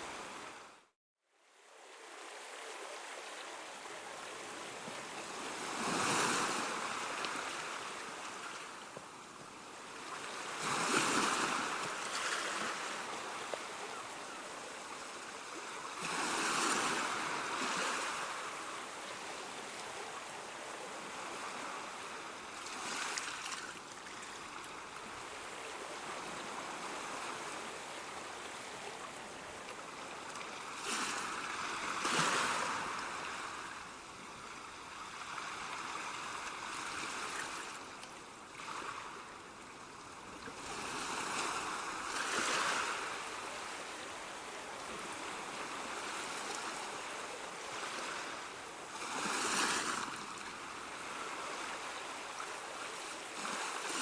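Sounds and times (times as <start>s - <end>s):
ocean waves breaking on shore: 0.0s - 54.0s
surf washing: 1.7s - 54.0s.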